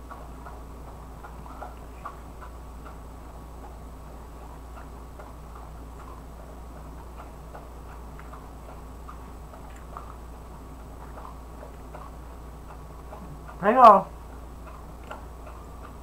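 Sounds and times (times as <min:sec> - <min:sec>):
chewing and slurping noodles: 0:00.0 - 0:13.6, 0:14.2 - 0:16.0
steady low hum: 0:00.0 - 0:16.0.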